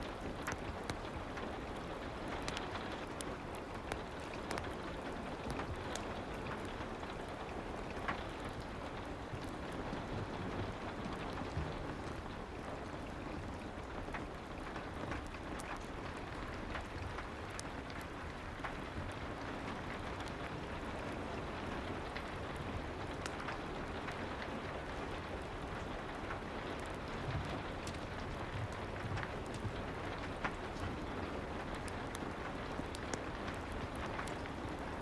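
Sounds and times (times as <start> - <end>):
soft rain: 0.0 - 35.0
fireplace crackling: 0.1 - 35.0.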